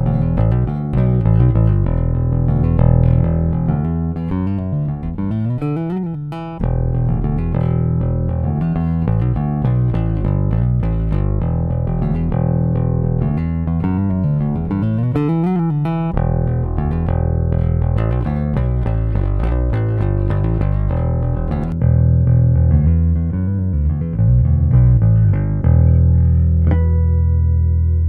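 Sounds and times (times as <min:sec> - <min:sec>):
electric bass guitar plucked notes: 0:00.0 - 0:28.0.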